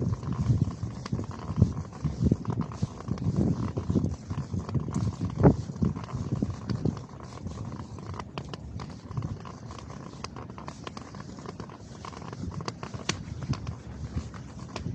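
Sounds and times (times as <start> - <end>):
handheld camera rumble: 0.0 - 14.9.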